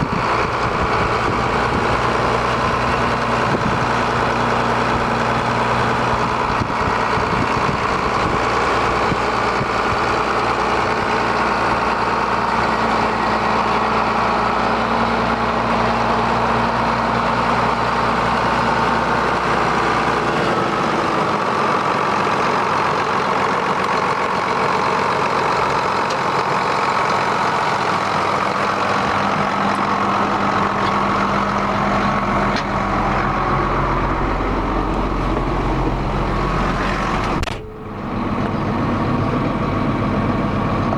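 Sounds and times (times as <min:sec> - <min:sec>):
tractor diesel engine idling: 0:00.0 - 0:40.9.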